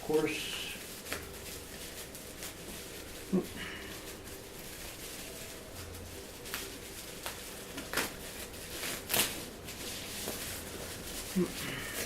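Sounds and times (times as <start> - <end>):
packaging handling noise: 0.2 - 12.0.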